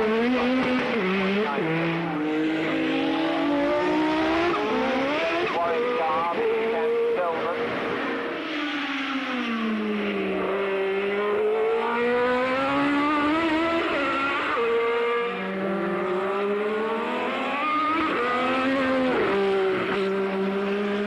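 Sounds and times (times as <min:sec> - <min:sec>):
racing car engine at high revs: 0:00.0 - 0:21.0.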